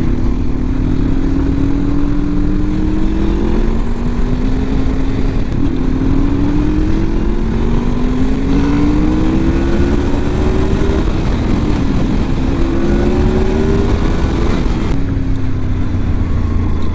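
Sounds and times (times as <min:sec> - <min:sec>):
motorcycle engine accelerating: 0:00.0 - 0:16.9
wind noise: 0:00.0 - 0:16.9.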